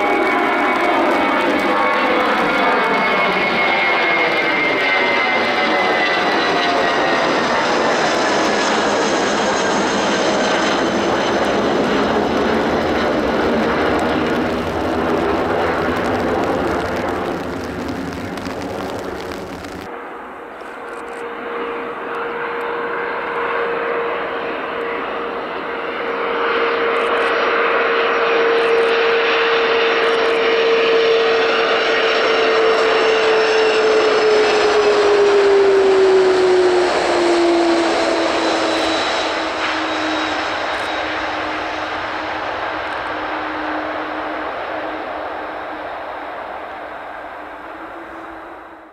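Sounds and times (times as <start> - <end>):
jet airliner climbing overhead: 0.0 - 48.9
jet engines whining on landing: 0.0 - 48.9
plane touchdown: 0.0 - 48.9.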